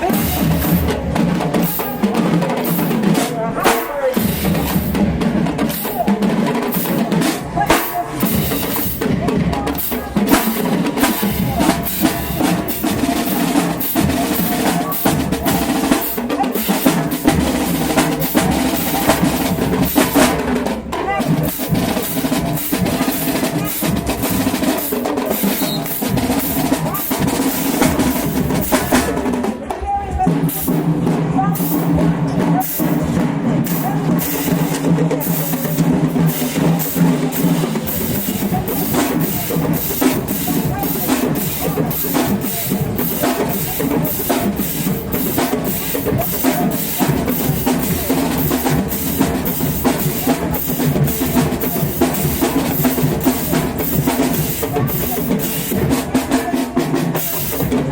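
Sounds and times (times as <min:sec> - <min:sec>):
marching band playing: 0:00.0 - 0:57.9
snare and bass drums beating: 0:00.0 - 0:57.9.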